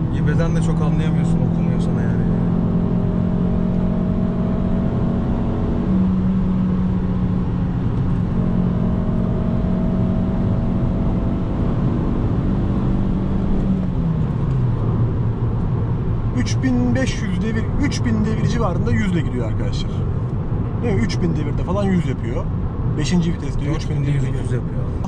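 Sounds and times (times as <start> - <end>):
car engine droning: 0.0 - 25.0
road rumble: 0.0 - 25.0.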